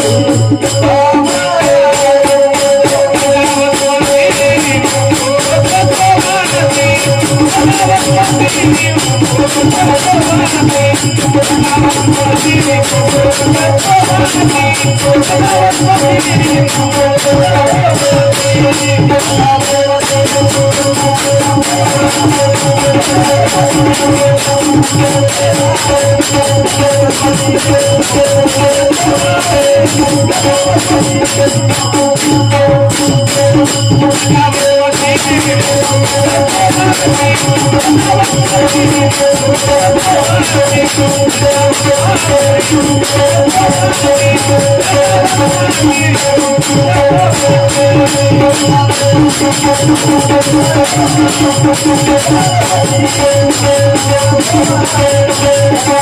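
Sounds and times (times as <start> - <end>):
jingling rattling percussion: 0.0 - 56.0.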